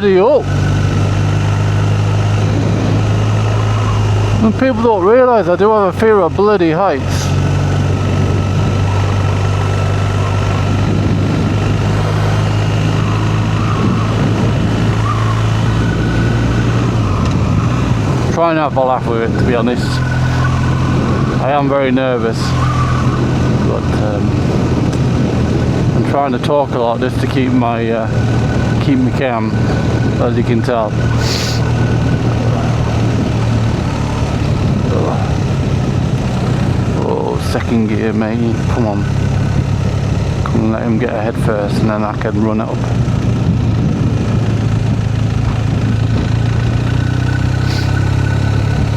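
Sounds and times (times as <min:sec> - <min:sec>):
motorcycle engine under load: 0:00.0 - 0:48.9
wind and road noise: 0:00.0 - 0:48.9.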